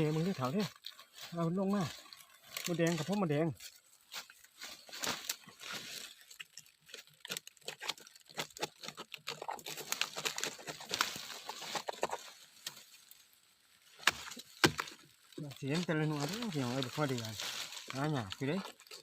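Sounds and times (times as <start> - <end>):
dry leaves and twigs rustling: 0.0 - 19.0.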